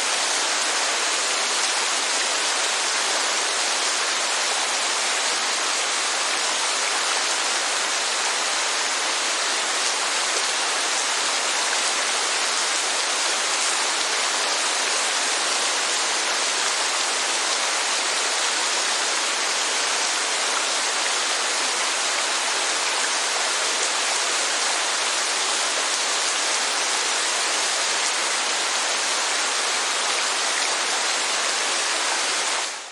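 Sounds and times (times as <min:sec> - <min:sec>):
steady rainfall hiss: 0:00.0 - 0:32.9.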